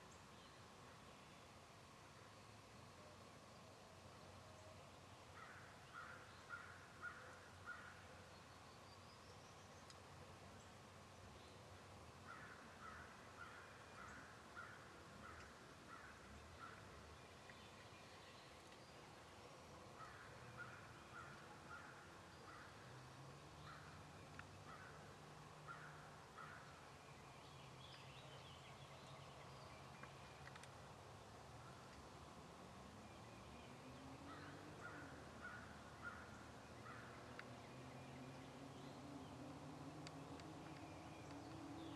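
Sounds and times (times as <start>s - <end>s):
faint bird calls: 2.2s - 10.4s, 12.2s - 30.8s, 33.0s - 41.9s.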